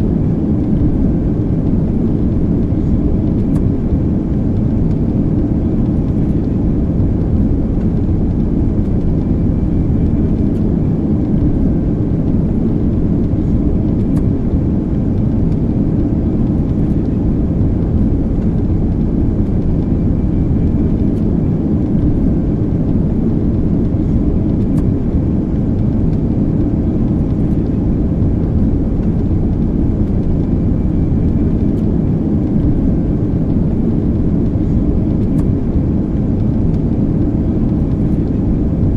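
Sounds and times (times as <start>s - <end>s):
airplane engines droning in cabin: 0.0s - 38.9s.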